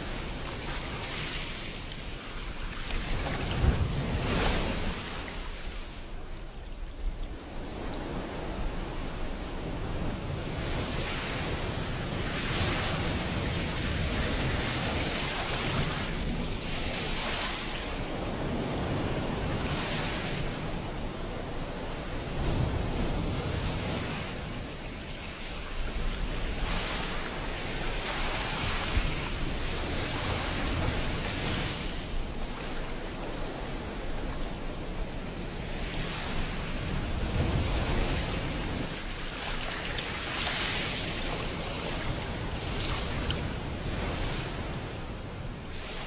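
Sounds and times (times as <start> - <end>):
ocean waves breaking: 7.6 - 46.0.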